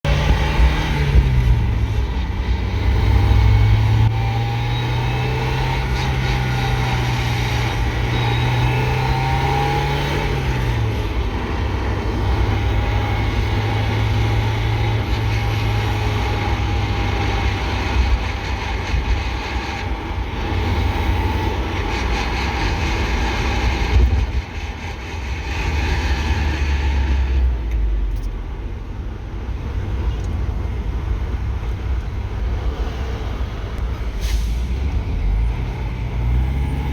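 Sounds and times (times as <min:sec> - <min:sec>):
car engine while driving: 0:00.0 - 0:36.9.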